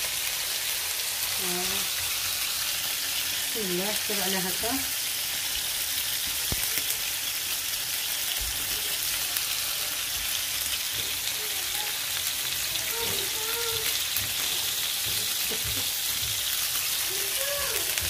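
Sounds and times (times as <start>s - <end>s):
hot oil sizzling: 0.0s - 18.0s.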